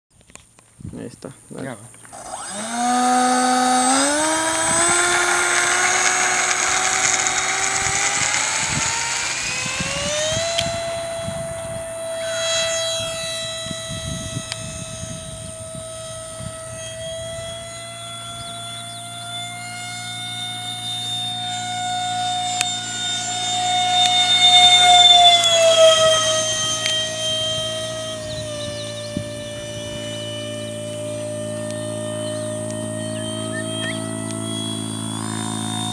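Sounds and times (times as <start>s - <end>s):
electric ducted fan whine: 0.2s - 35.9s.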